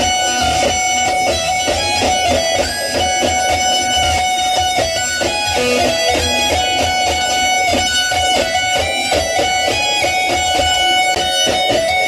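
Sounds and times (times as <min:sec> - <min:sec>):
electric guitar riff: 0:00.0 - 0:12.0.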